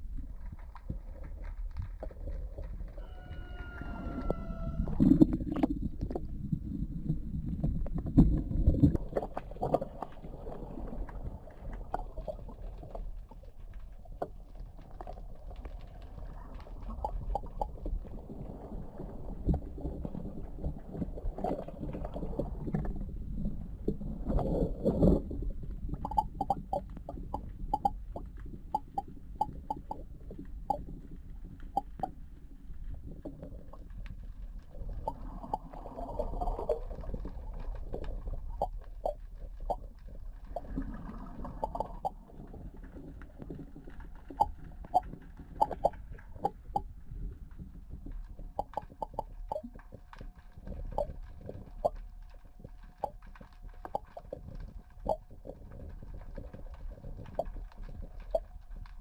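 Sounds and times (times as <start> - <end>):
underwater clicks and knocks: 0.0 - 18.5, 23.8 - 59.0
low rumble of moving water: 0.0 - 59.0.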